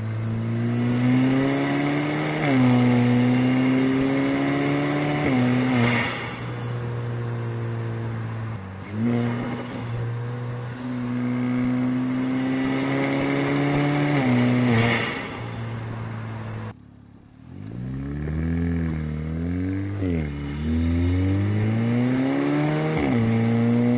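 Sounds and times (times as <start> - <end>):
car engine revving under load: 0.0 - 23.9.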